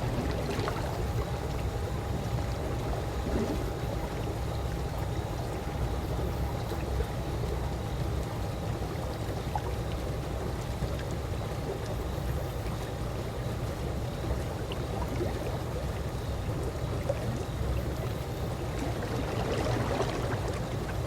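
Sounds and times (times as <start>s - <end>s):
faint constant hum: 0.0s - 21.0s
pool water lapping and trickling: 0.0s - 21.0s.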